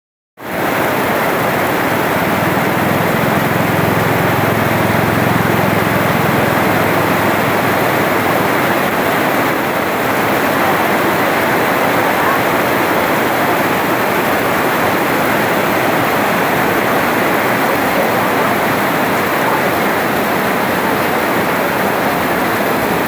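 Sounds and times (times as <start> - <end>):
heavy rain: 0.4 - 23.0.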